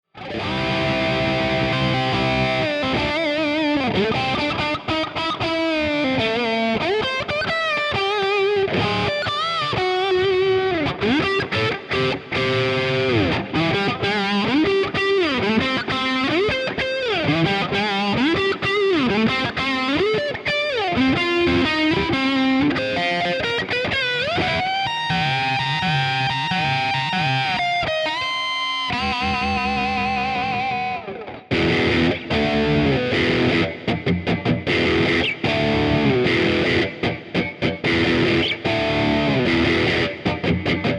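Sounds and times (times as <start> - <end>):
distorted electric guitar: 0.1 - 40.9.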